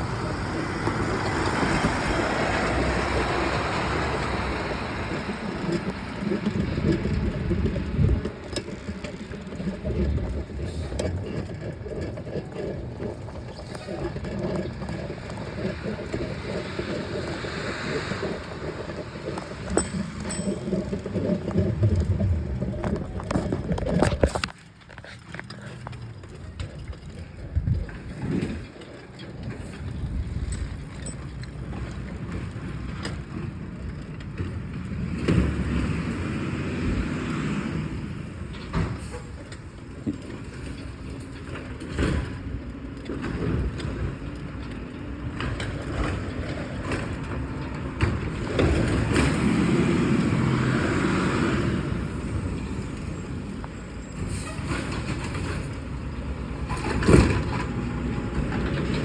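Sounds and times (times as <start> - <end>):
knocks and clatters: 0.0 - 37.8, 38.4 - 59.0
heavy truck engine running: 0.0 - 59.0.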